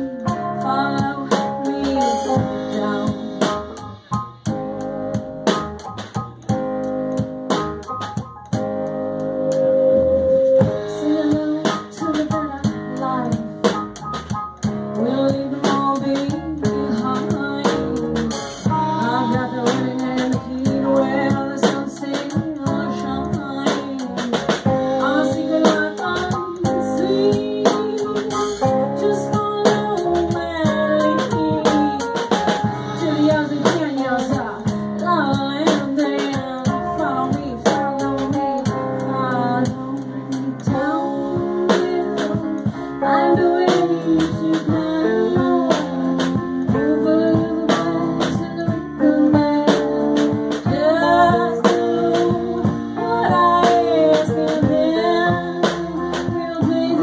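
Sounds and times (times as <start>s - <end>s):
woman singing: 0.0s - 4.8s, 10.3s - 57.0s
live band playing: 0.0s - 57.0s
steady drum beat: 0.0s - 57.0s.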